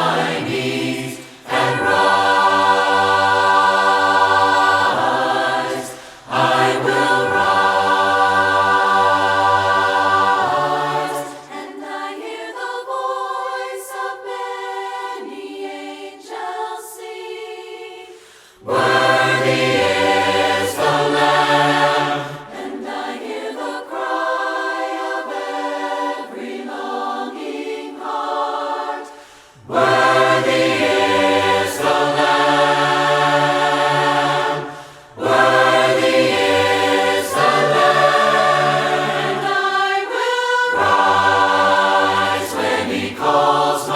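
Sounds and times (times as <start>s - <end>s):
choir singing a cappella: 0.0s - 43.9s.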